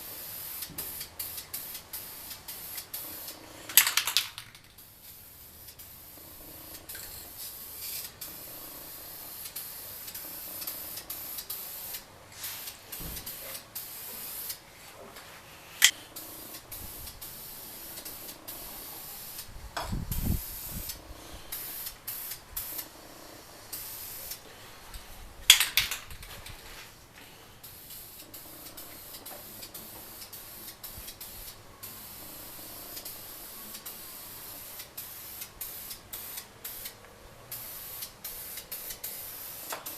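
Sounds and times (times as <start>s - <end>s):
aerosol spray can hissing: 0.0s - 26.9s, 27.6s - 39.9s.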